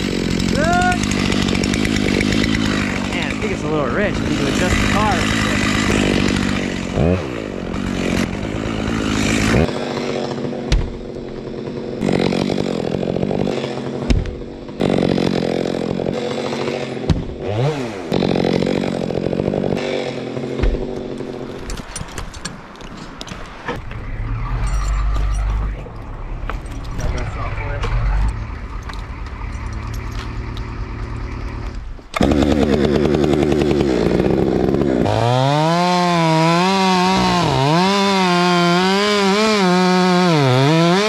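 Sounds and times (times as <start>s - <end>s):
chainsaw cutting wood: 0.0s - 23.3s, 30.1s - 41.0s.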